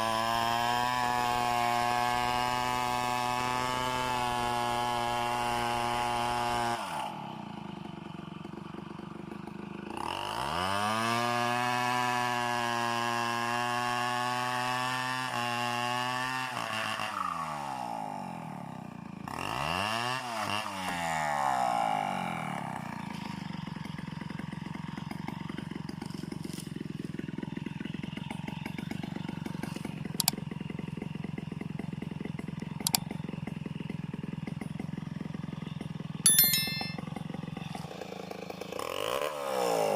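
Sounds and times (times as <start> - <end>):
chainsaw engine revving and idling: 0.0 - 36.1, 37.6 - 39.9.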